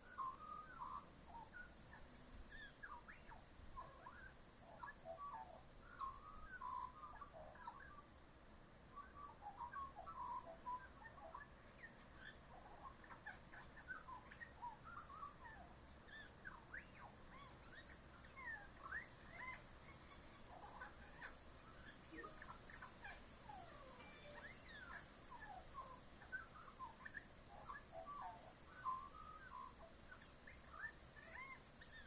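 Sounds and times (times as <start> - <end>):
magpie singing: 0.0 - 8.1, 9.0 - 32.0.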